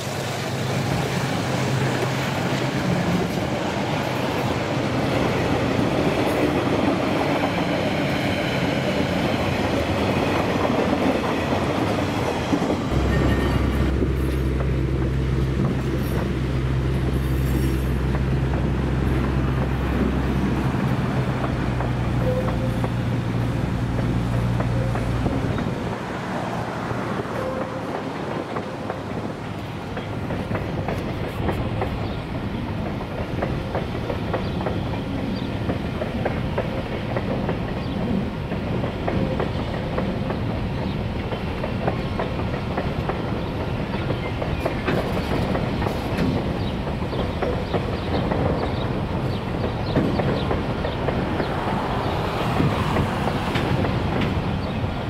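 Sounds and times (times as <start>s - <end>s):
train wheels clattering: 0.0s - 26.0s, 27.2s - 55.0s
diesel locomotive engine: 0.0s - 55.0s.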